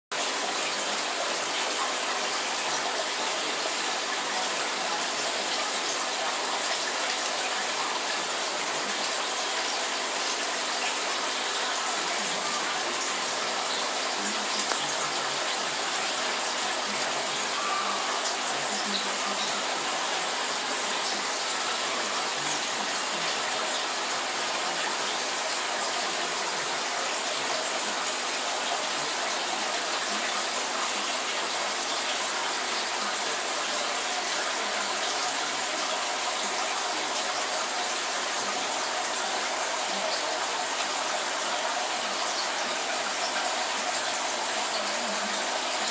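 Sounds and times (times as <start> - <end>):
aquarium filter water rushing: 0.1 - 45.9.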